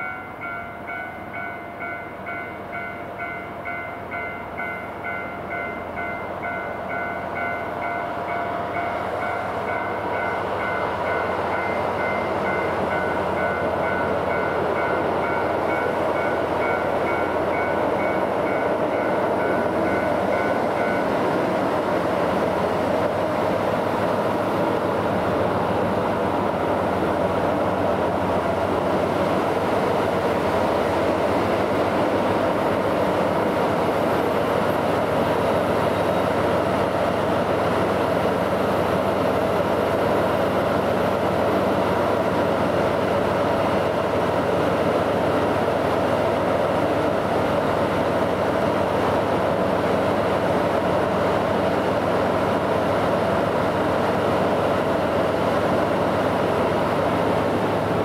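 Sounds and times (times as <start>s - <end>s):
locomotive engines droning: 0.0s - 58.0s.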